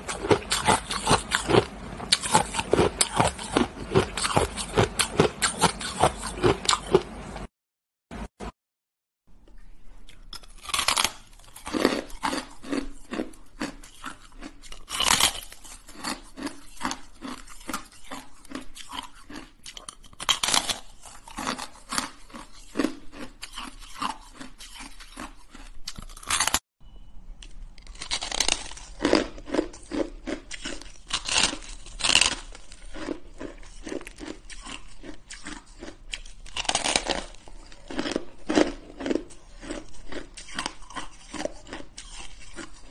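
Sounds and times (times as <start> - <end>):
ice crunching while chewed: 0.0 - 7.5, 10.1 - 26.6, 27.8 - 42.9.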